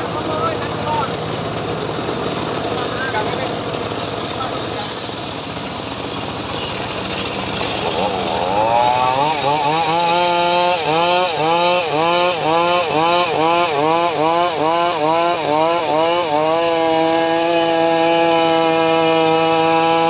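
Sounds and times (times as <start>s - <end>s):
power saw cutting wood: 0.0s - 20.0s.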